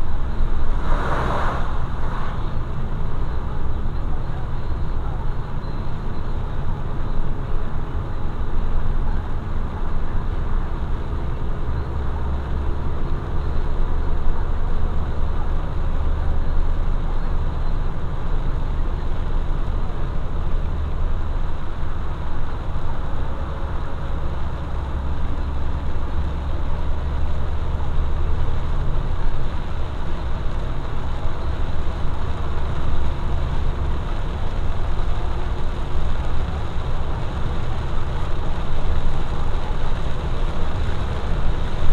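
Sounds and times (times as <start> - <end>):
engine drone: 0.0 - 41.9
tyre noise on wet road: 0.0 - 41.9.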